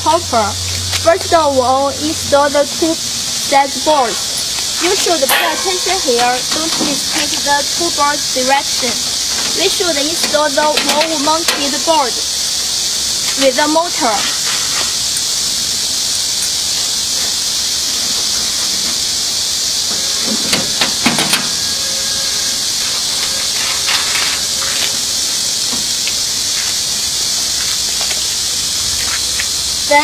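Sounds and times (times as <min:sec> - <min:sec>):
high-pitched hiss: 0:00.0 - 0:30.0.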